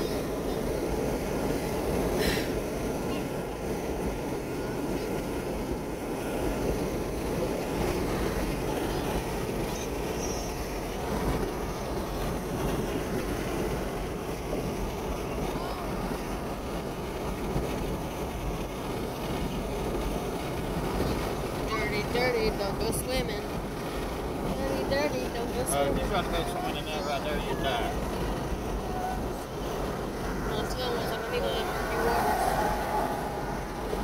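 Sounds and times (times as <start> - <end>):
truck engine: 0.0 - 34.0
tyres on road: 0.0 - 34.0.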